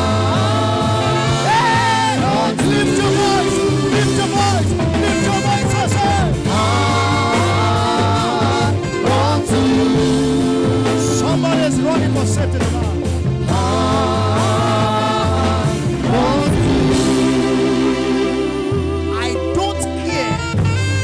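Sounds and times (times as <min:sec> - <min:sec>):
person singing: 0:00.0 - 0:05.3, 0:06.1 - 0:11.6, 0:13.5 - 0:20.3
gospel band with bass line: 0:00.0 - 0:21.0.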